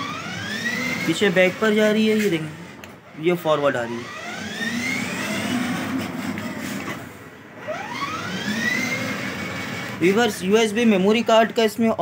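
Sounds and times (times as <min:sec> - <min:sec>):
electric toy car motors whining: 0:00.0 - 0:11.2.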